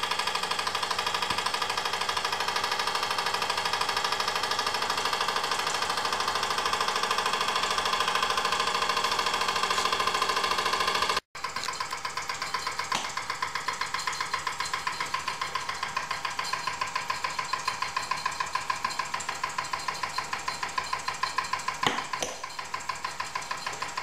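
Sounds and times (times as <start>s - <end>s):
toy steam engine puffing: 0.0s - 24.0s.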